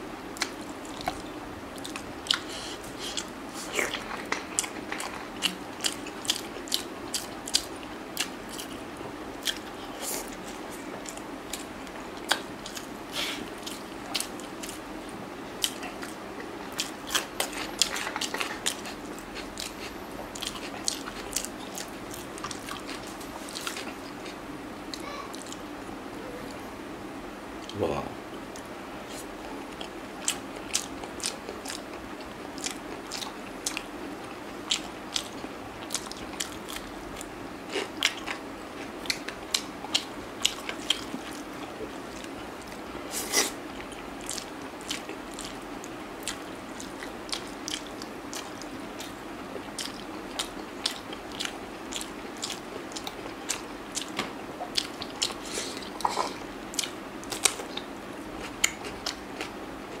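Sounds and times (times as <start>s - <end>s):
steady low hiss: 0.0s - 60.0s
chewing and biting: 0.4s - 14.8s, 15.6s - 25.6s, 28.5s - 33.9s, 34.6s - 60.0s.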